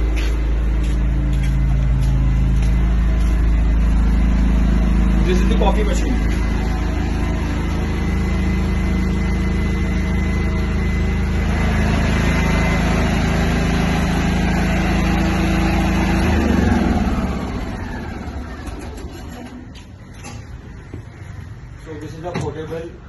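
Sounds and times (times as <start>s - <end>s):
generator running and winding down: 0.0s - 20.7s.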